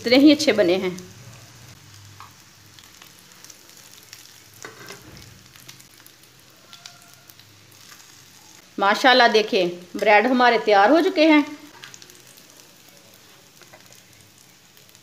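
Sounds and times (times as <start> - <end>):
bread sizzling in hot oil: 0.0 - 15.0.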